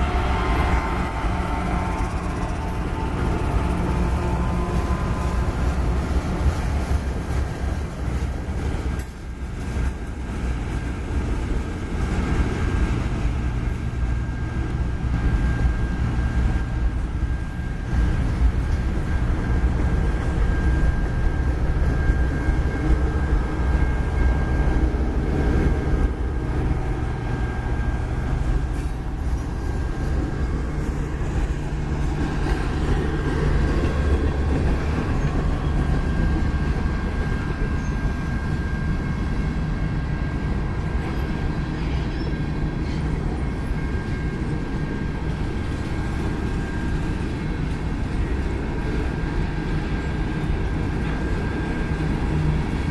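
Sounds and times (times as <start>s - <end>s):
freight cars rumbling on rails: 0.0s - 52.9s.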